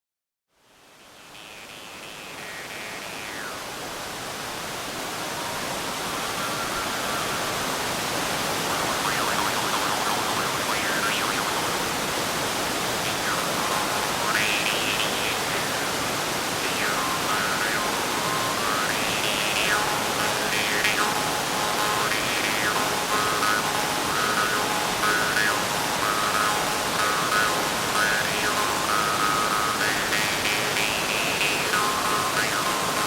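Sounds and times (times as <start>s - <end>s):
waterfall roaring: 1.4s - 33.0s.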